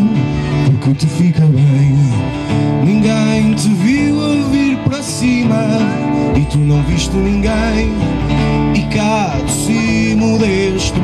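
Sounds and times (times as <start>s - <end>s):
man singing: 0.0s - 11.0s
strummed acoustic guitar: 0.0s - 11.0s.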